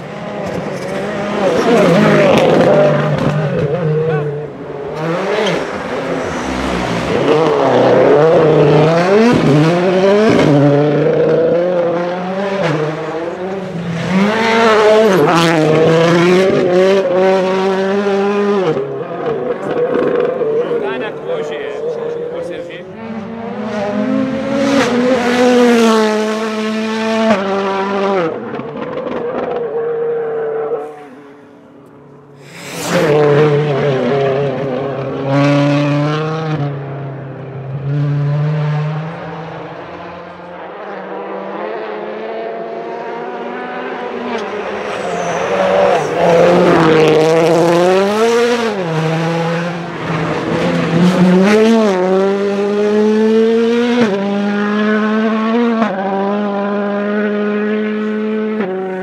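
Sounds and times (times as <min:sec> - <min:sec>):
rally car engines passing: 0:00.0 - 0:59.0.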